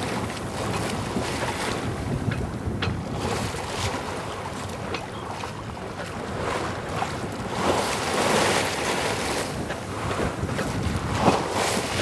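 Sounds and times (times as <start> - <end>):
waves washing along hull: 0.0 - 12.0
wind buffeting microphone: 0.0 - 12.0.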